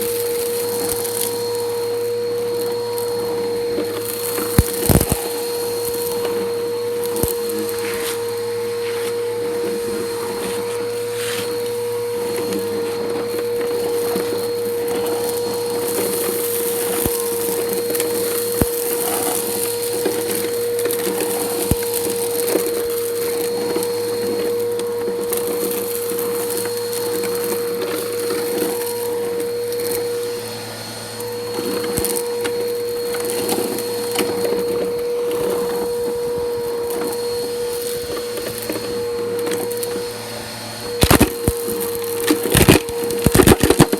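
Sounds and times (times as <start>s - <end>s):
debris crackling up vacuum: 0.0s - 43.9s
vacuum cleaner motor whine: 0.0s - 43.9s.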